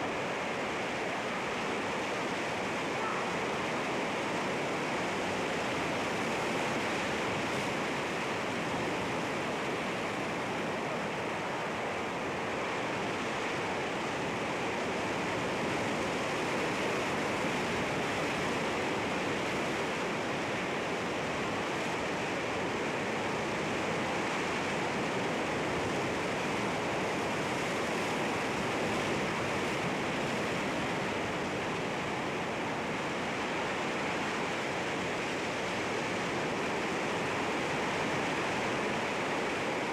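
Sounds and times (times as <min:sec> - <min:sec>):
surf washing over rocks: 0:00.0 - 0:39.9.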